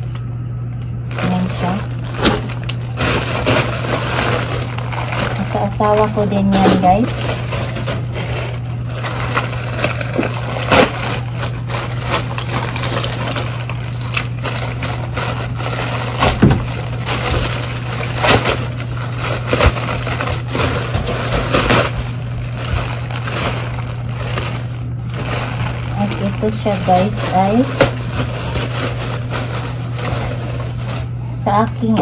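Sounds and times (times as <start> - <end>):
plastic packaging crinkling: 0.0 - 32.0
steady low hum: 0.0 - 32.0.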